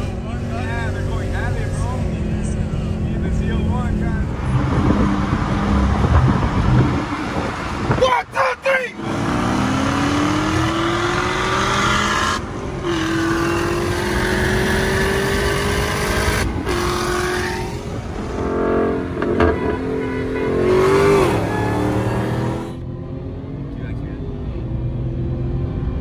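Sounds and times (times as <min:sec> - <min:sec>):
car engine accelerating: 0:00.0 - 0:08.1, 0:08.9 - 0:26.0.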